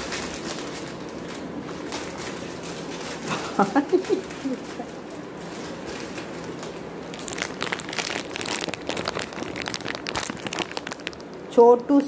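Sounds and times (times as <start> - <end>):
treat packet crinkling: 0.0 - 12.0.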